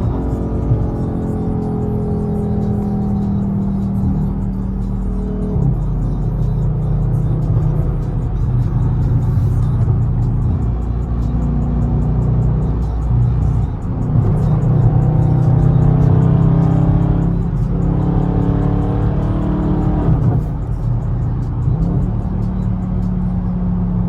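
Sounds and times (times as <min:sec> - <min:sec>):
car engine droning: 0:00.0 - 0:24.0
music playing: 0:00.0 - 0:24.0.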